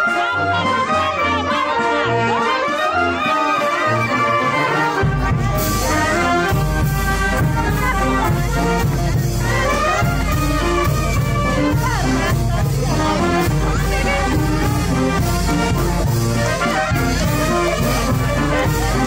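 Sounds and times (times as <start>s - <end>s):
brass band playing festive tune: 0.0s - 19.0s.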